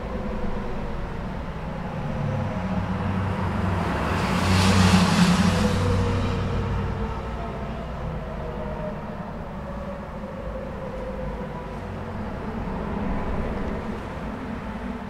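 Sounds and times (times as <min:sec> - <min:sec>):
highway traffic rushing: 0:00.0 - 0:15.0
passing vehicle engine hum: 0:00.0 - 0:15.0.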